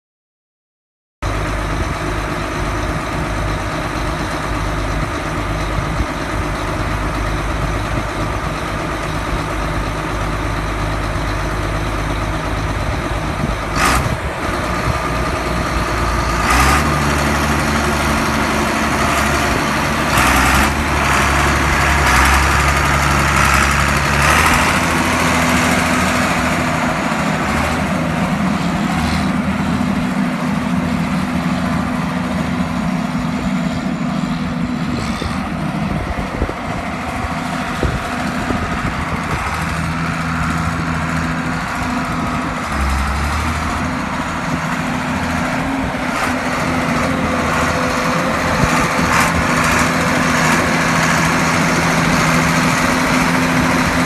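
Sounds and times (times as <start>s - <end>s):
tractor diesel engine: 1.2s - 54.0s.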